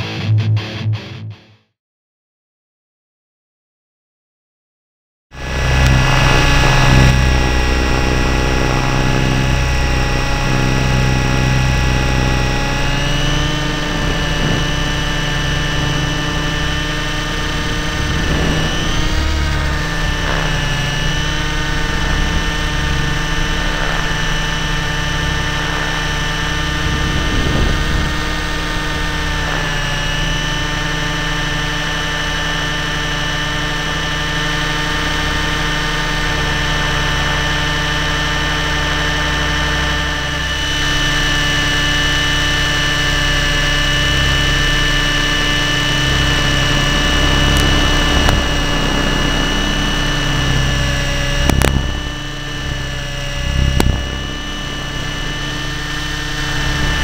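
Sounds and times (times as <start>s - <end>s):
low fluttering rumble: 5.4s - 57.0s
model plane motor whine: 5.4s - 57.0s.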